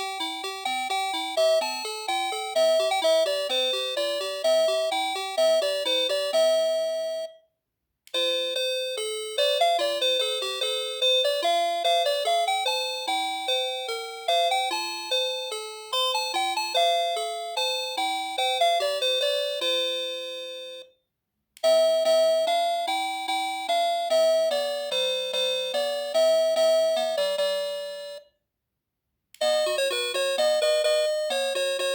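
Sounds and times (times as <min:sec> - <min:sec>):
electronic doorbell chime melodies: 0:00.0 - 0:07.5, 0:08.2 - 0:20.9, 0:21.6 - 0:28.4, 0:29.4 - 0:31.9.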